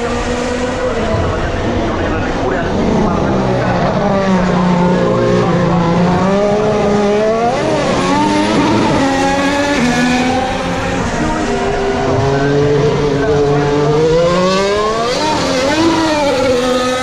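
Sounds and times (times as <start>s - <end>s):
racing car engines downshifting: 0.0s - 17.0s.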